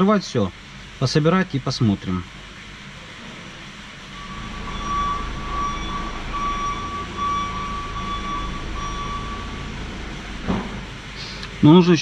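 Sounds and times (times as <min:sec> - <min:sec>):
electric car machinery hum and whine: 0:00.0 - 0:12.0.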